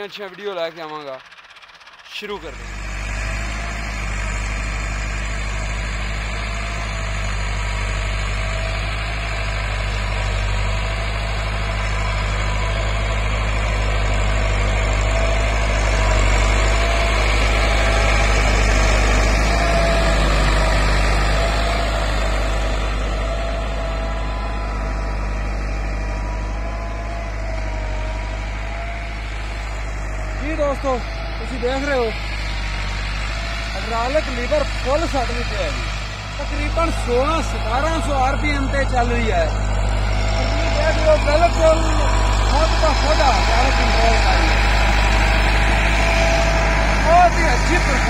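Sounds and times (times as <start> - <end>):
diesel tractor engine running: 0.0 - 48.0.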